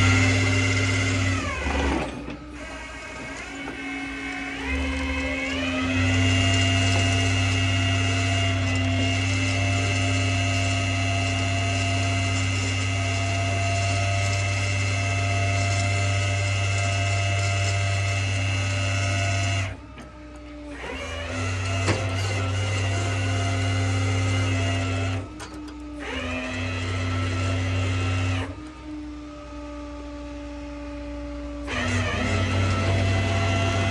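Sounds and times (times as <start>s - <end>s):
hydraulic system drone and whine: 0.0s - 33.9s.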